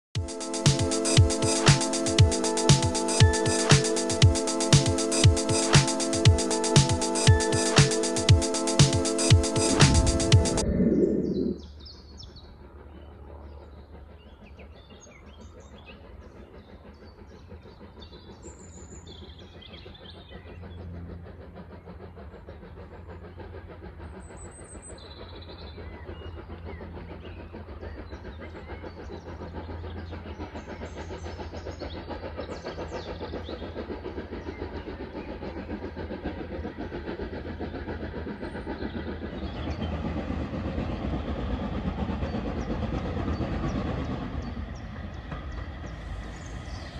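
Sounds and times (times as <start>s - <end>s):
steam locomotive rumbling: 0.2s - 46.9s.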